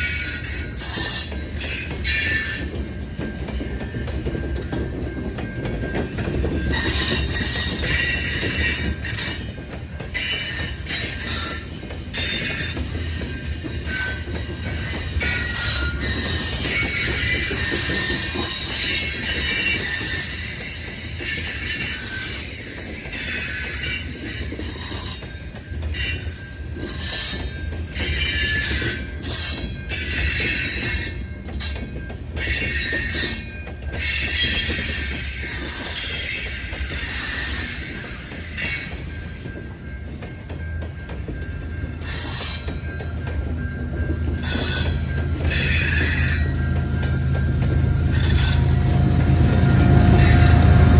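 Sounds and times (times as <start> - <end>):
train rumbling: 0.0 - 50.9
train wheels squealing: 0.0 - 50.9.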